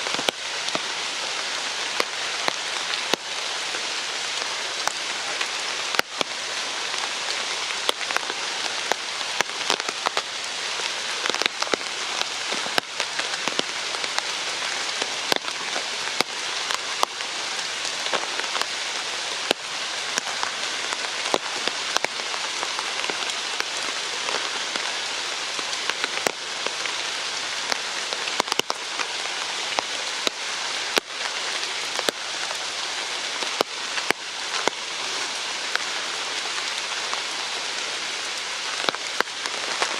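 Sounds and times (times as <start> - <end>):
sharp taps of raindrops: 0.0 - 39.9
steady rain falling: 0.0 - 39.9.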